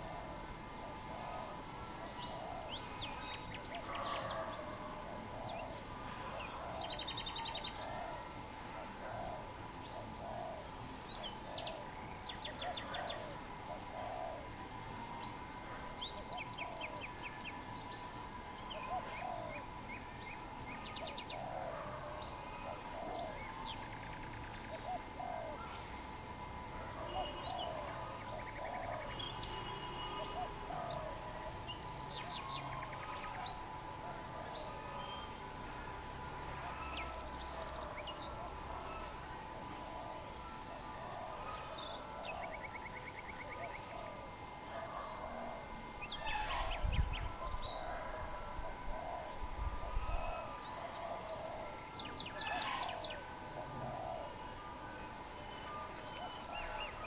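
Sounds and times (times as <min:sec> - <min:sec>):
dove cooing: 0:00.0 - 0:11.9, 0:12.6 - 0:14.6, 0:15.7 - 0:17.2, 0:18.8 - 0:19.7, 0:21.0 - 0:23.6, 0:24.7 - 0:26.0, 0:26.8 - 0:35.1, 0:36.6 - 0:54.6
small birds chirping and trilling: 0:00.0 - 0:26.2, 0:27.0 - 0:57.0
faint steady whine: 0:00.0 - 0:57.0.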